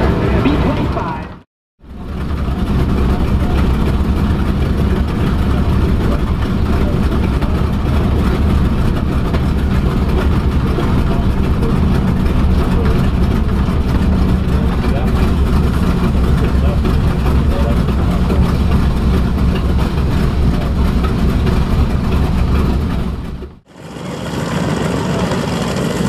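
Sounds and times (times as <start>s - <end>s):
radial aircraft engines running: 0.0s - 26.0s.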